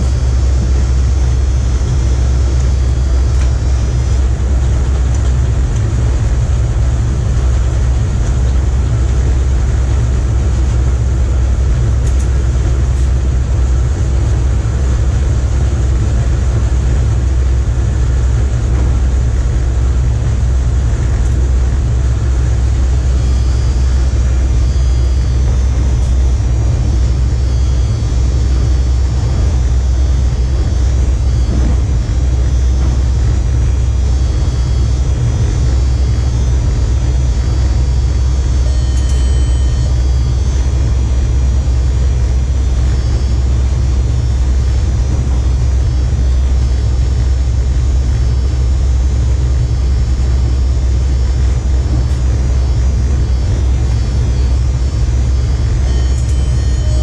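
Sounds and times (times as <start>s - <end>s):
locomotive cab running noise: 0.0s - 57.0s.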